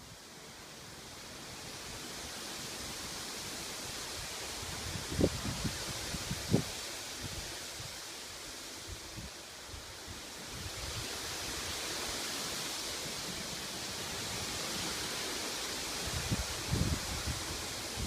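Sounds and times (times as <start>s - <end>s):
wind rustling tree leaves: 0.0s - 18.0s.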